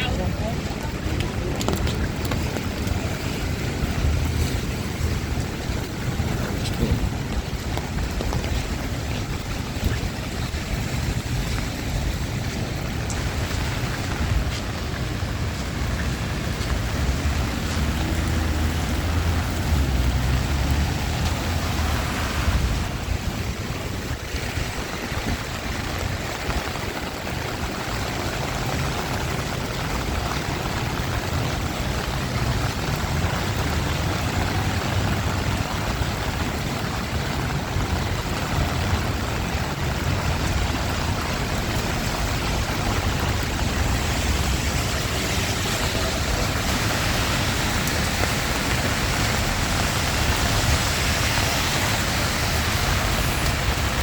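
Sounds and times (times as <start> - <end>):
city traffic: 0.0 - 54.0
rain: 0.0 - 54.0.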